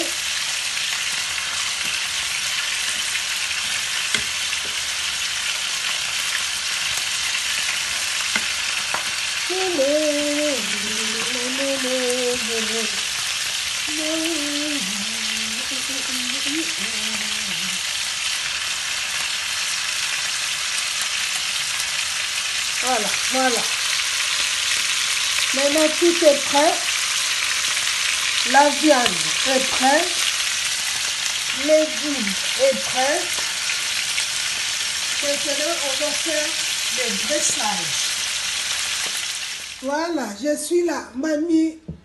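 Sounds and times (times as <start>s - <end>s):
vegetables sizzling in a pan: 0.0s - 41.0s.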